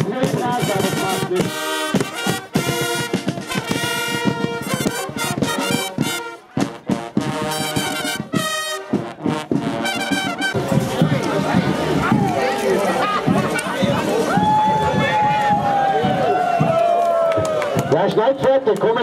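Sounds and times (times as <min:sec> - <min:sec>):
brass band playing punchy chords: 0:00.0 - 0:16.9.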